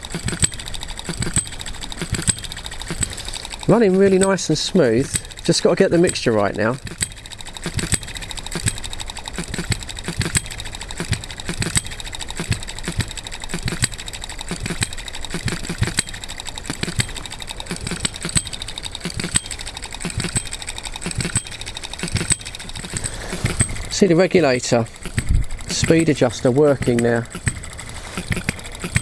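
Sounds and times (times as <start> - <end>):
small engine ticking and popping: 0.0 - 29.0.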